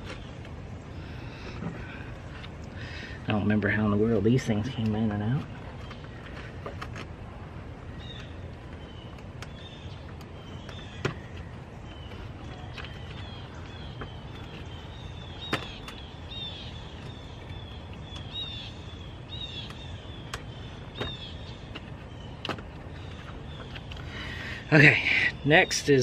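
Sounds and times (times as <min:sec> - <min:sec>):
birds chirping: 0:00.0 - 0:26.0
low outdoor hum: 0:00.0 - 0:26.0.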